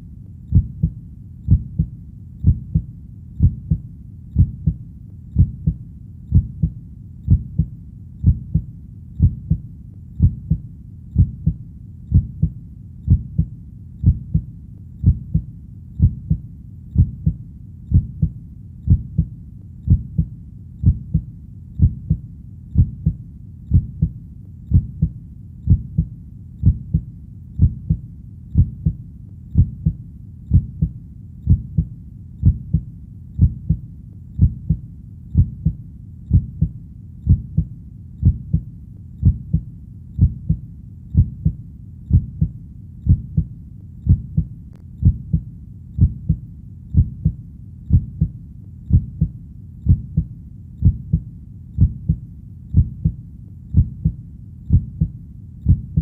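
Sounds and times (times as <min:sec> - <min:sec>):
heartbeat double thumps: 0:00.0 - 0:33.8, 0:34.4 - 0:56.0
faint low rumble: 0:00.0 - 0:56.0.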